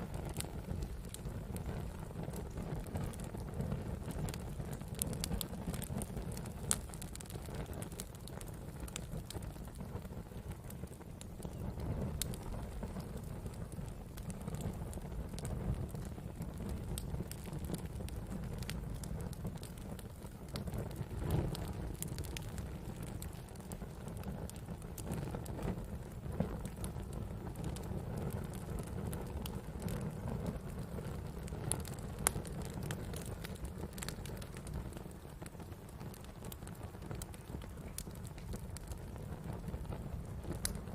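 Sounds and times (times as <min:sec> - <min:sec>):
campfire crackles and pops: 0:00.0 - 0:40.9
low fire rumble: 0:00.0 - 0:40.9.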